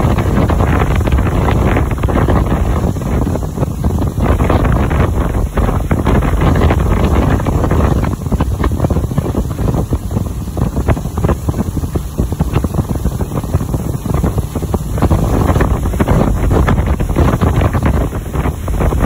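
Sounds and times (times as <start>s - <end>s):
boat engine and spray rush: 0.0s - 19.0s
wind buffeting microphone: 0.0s - 19.0s.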